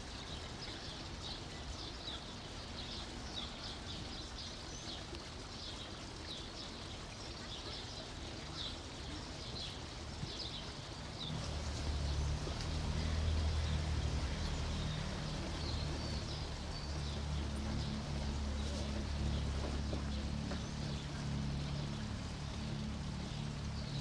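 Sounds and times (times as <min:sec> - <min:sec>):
outdoor background noise: 0:00.0 - 0:24.0
small birds chirping: 0:00.0 - 0:24.0.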